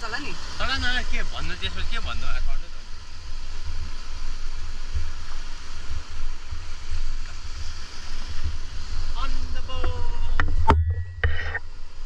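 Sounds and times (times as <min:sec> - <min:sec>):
surf washing over sand: 0:00.0 - 0:12.0
wind buffeting microphone: 0:00.0 - 0:12.0.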